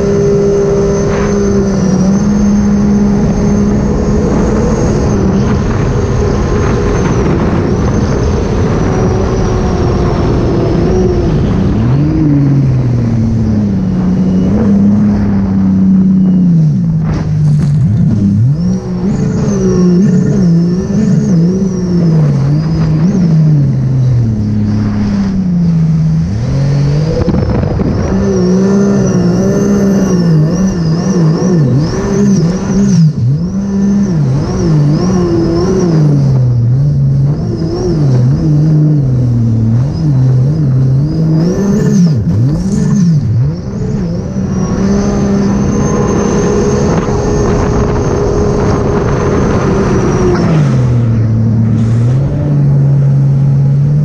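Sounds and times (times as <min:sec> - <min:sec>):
personal watercraft engine revving: 0:00.0 - 0:54.0.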